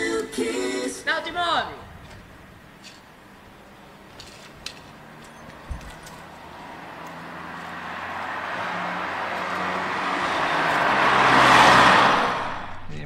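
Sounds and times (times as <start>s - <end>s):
road vehicle approaching: 0.9s - 13.0s.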